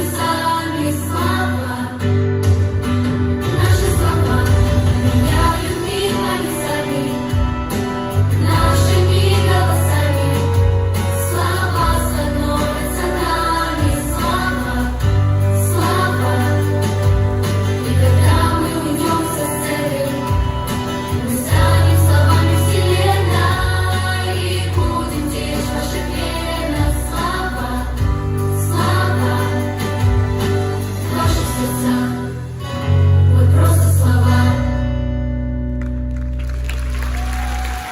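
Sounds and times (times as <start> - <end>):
voices singing together: 0.0 - 2.5, 3.4 - 34.9
pop song with heavy bass: 0.0 - 35.7.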